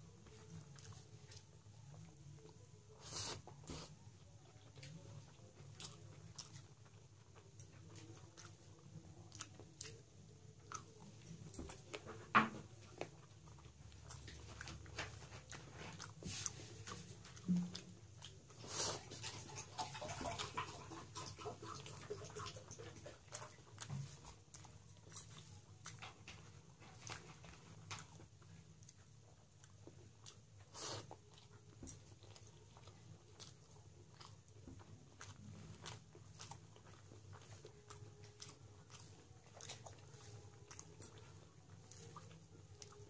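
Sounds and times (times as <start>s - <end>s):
person chewing with lip smacks: 0.2s - 43.0s.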